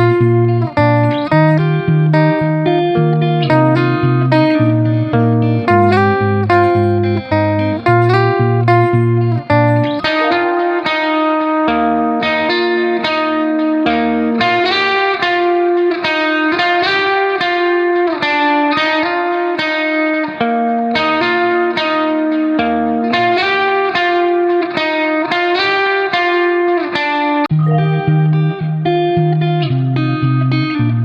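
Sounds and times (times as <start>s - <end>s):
plucked guitar instrumental music: 0.0s - 31.0s.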